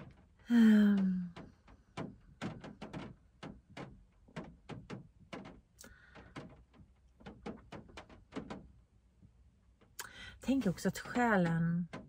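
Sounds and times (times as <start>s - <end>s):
raindrops on car roof: 0.0s - 12.0s.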